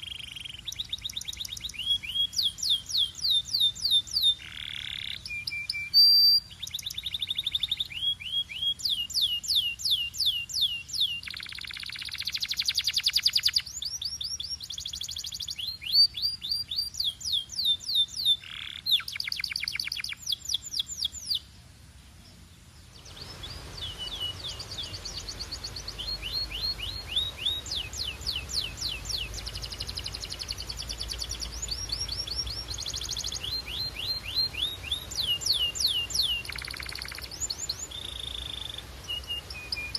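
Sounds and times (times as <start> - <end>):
canary singing trills: 0.0 - 21.5, 22.9 - 39.9
background hiss: 0.0 - 39.9.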